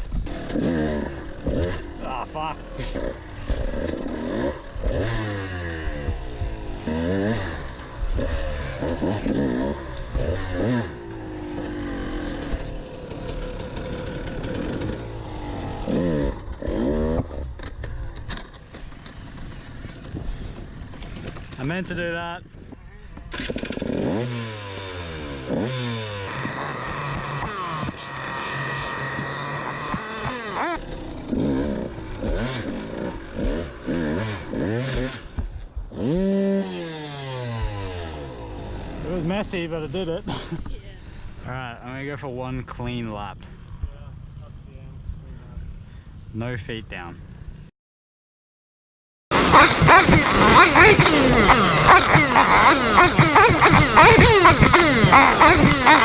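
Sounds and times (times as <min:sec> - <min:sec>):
dirt bike engine revving: 0:00.0 - 0:22.2, 0:23.3 - 0:41.6, 0:49.3 - 0:56.0.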